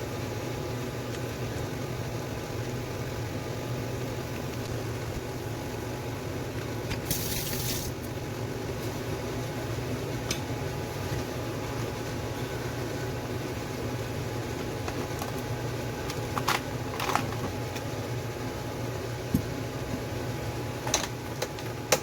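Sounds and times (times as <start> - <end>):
fan hum: 0.0 - 22.0.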